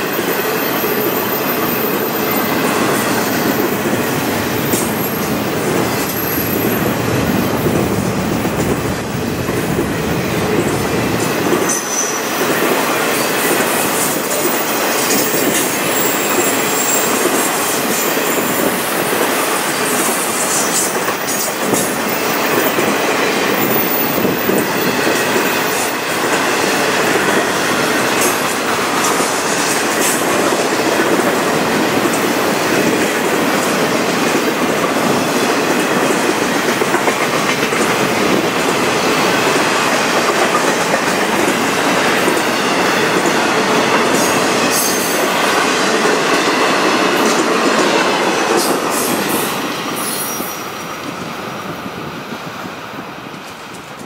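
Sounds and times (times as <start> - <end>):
train wheels rumbling and rattling: 0.0 - 54.0.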